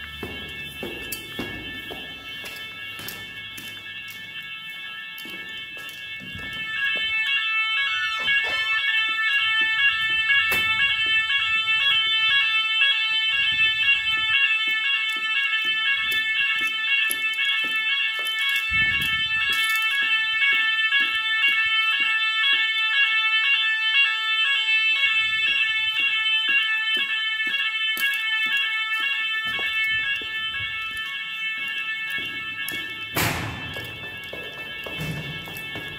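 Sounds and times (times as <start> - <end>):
pulsing multi-tone fire alarm: 0.0 - 35.9.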